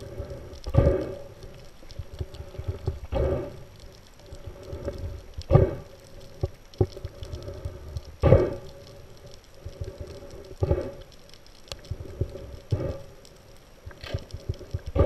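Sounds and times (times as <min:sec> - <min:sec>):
faint steady hum: 0:00.0 - 0:15.0
muffled underwater water rush: 0:00.0 - 0:15.0
small clicks: 0:00.3 - 0:15.0.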